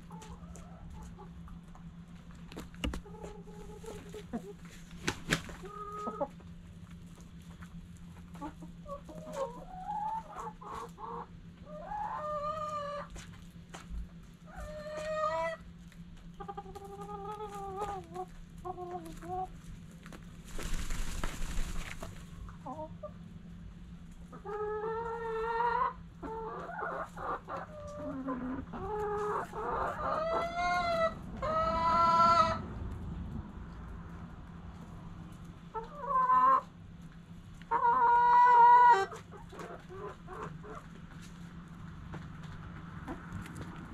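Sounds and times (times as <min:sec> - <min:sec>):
chickens clucking and calling: 0:00.0 - 0:43.9.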